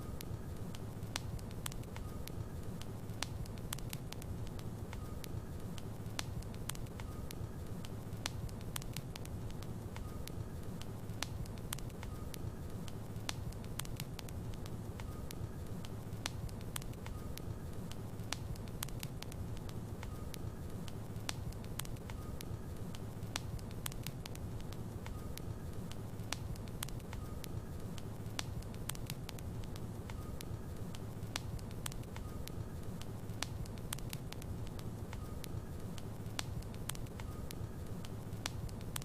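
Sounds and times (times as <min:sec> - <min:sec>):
logs crackling in a fireplace: 0:00.0 - 0:39.0.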